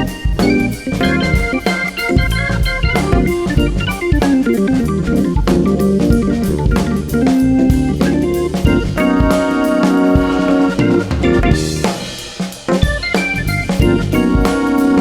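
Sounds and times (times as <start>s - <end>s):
guitar: 0.0s - 12.0s, 12.7s - 15.0s
bass: 0.0s - 12.2s, 12.8s - 15.0s
drum kit: 0.0s - 15.0s
keyboard: 0.0s - 15.0s.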